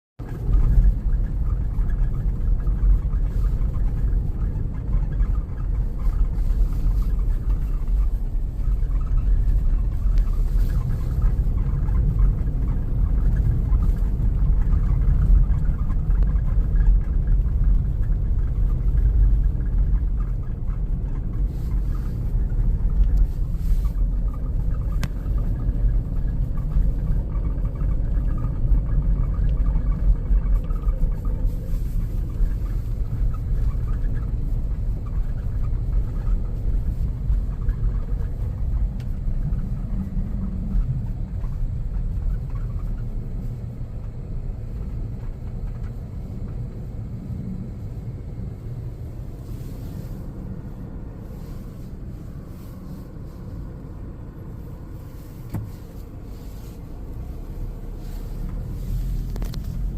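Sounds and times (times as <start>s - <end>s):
wind buffeting microphone: 0.2s - 59.9s.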